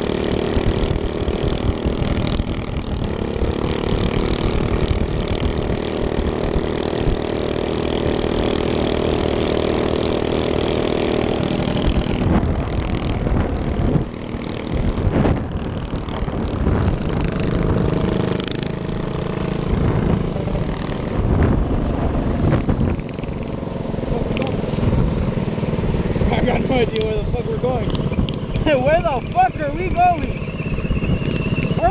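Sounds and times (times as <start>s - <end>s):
minibike engine running: 0.0s - 31.9s.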